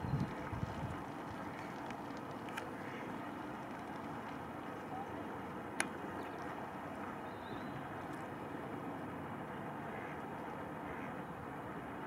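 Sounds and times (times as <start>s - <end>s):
outdoor hiss and rumble: 0.0s - 12.0s.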